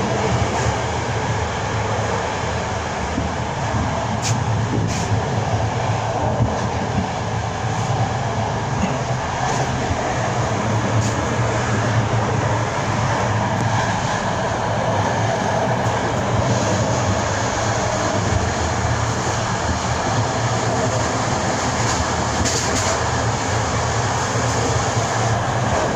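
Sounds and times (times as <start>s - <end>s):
train wheels rumbling and rattling: 0.0s - 25.9s.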